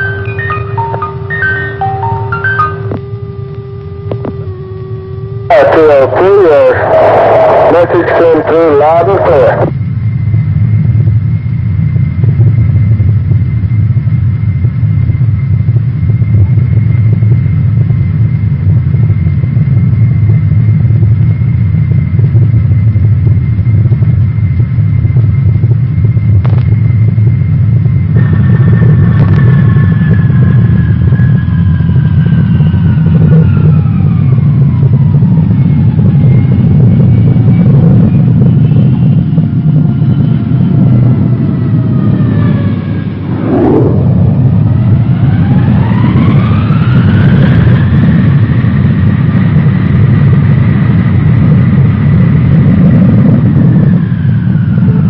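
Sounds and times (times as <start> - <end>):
falling whine: 0.0 - 55.0
jet engines rumbling in flight: 0.0 - 55.0.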